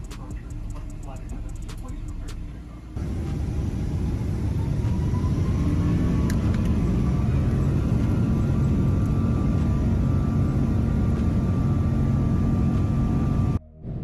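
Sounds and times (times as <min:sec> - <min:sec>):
jet engine rumble in cabin: 0:00.0 - 0:13.6
engine whine rising: 0:00.0 - 0:14.0.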